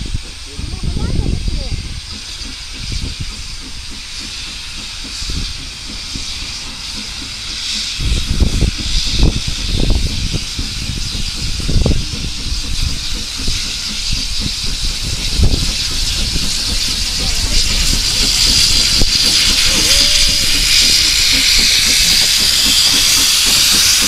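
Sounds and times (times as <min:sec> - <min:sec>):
low rumbles: 0:00.0 - 0:24.0
steam locomotive hissing: 0:00.0 - 0:24.0.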